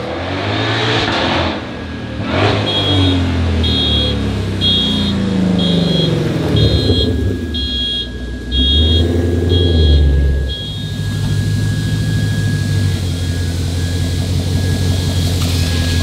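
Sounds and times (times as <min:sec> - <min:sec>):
car engine revving: 0:00.0 - 0:16.0
high electronic beep: 0:02.3 - 0:16.0
thin steady tone: 0:02.7 - 0:16.0.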